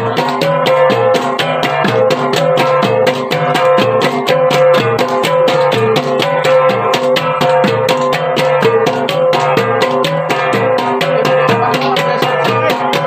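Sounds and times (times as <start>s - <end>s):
bronze gongs interlocking rhythm: 0.0s - 13.0s.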